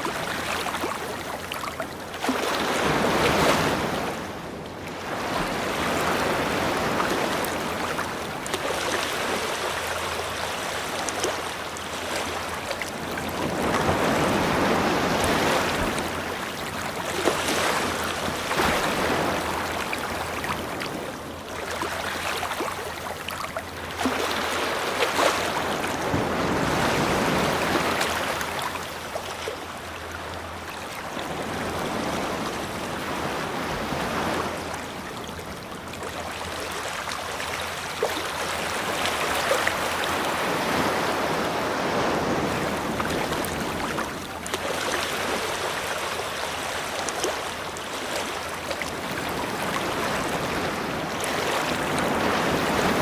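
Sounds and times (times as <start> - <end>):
ocean waves washing onto beach: 0.0 - 53.0.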